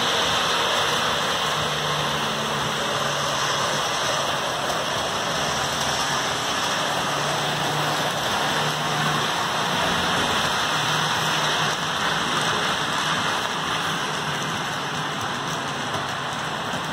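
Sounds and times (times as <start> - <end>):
model train wheels on rails: 0.0 - 16.9.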